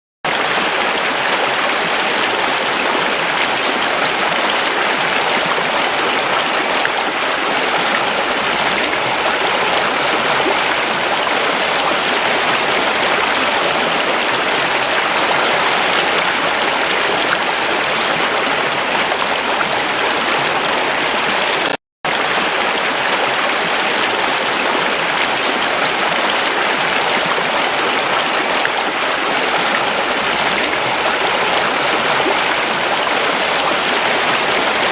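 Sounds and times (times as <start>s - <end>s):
river water flowing over rocks: 0.3s - 34.9s.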